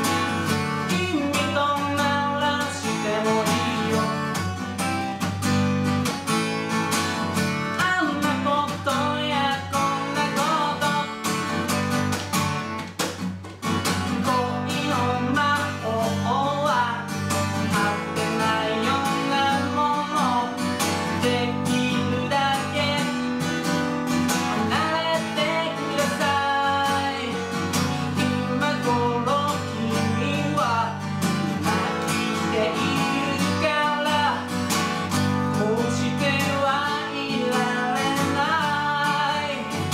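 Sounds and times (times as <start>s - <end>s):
man singing: 0.0s - 5.3s, 7.4s - 11.7s, 13.9s - 39.9s
acoustic guitar strumming: 0.0s - 39.9s.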